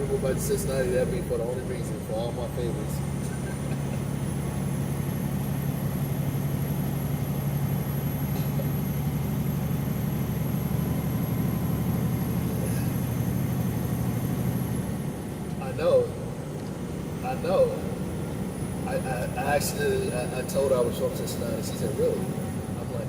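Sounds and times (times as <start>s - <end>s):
road noise: 0.0s - 23.0s
truck engine hum: 0.0s - 23.0s.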